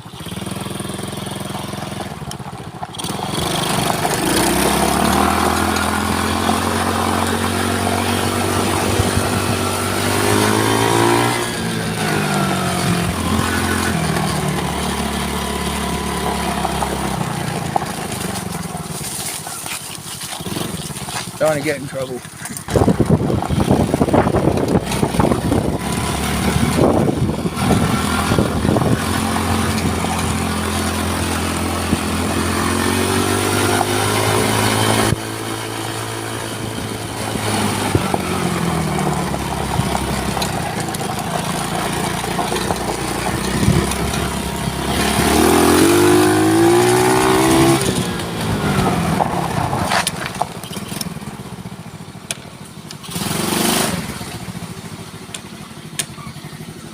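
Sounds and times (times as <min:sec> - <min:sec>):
quad bike engine revving: 0:00.0 - 0:56.9.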